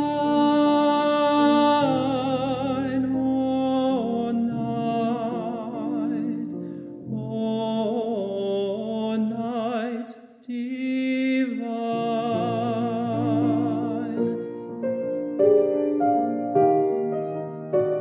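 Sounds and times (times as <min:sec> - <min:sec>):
piano accompaniment: 0:00.0 - 0:10.0, 0:11.3 - 0:18.0
young man singing with vibrato: 0:00.0 - 0:14.8.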